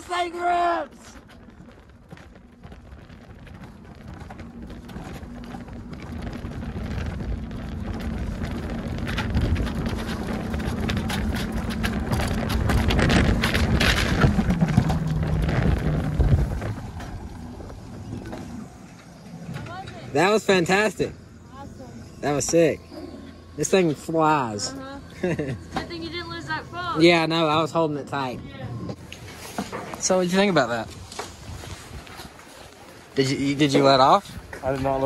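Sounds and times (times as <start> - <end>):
sled wheels rumbling on rail: 0.0 - 32.4.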